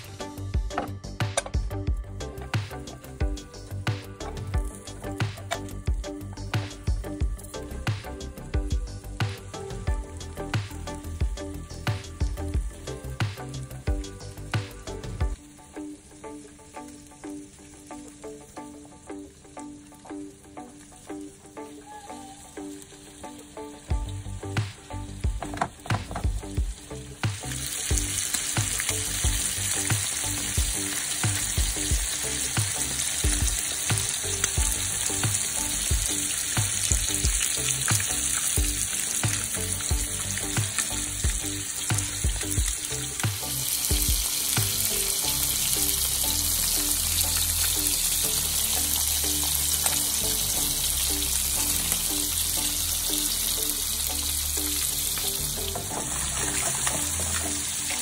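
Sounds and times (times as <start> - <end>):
fish frying in butter: 2.3 - 58.0.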